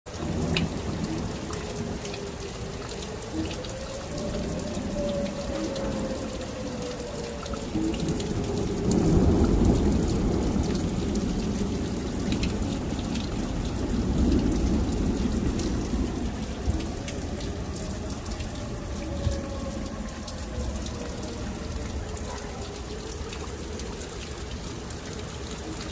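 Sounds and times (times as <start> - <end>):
faint warning siren wailing: 0.1 - 25.9
rain: 0.1 - 25.9.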